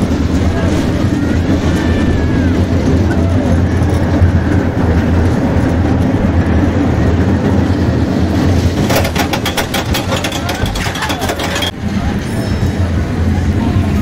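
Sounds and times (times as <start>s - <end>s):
amusement ride rumbling and rattling: 0.0s - 14.0s.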